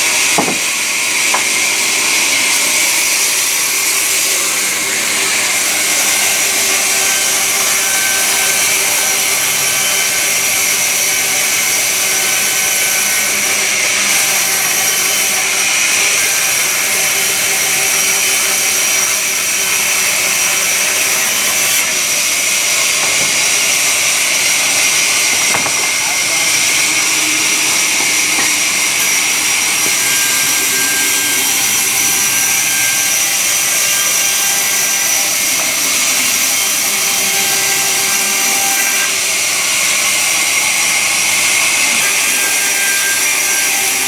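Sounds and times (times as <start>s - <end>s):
sawmill saw whining: 0.0s - 44.0s.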